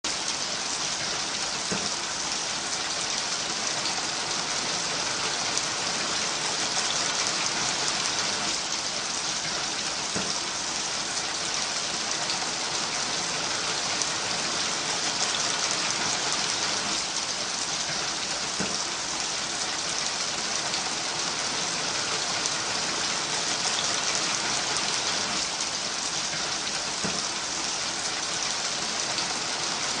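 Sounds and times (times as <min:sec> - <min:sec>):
steady rain falling: 0:00.1 - 0:30.0.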